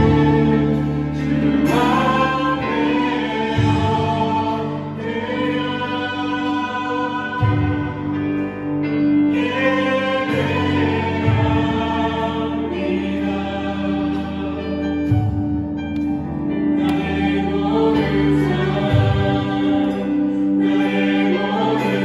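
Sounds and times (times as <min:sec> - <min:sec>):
voices singing together: 0:00.0 - 0:15.5, 0:16.7 - 0:22.0
bass notes: 0:00.0 - 0:22.0.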